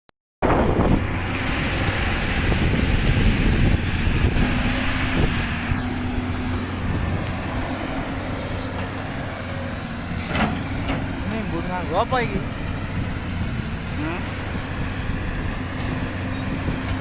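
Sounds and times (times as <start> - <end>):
excavator diesel engine running: 0.4 - 17.0.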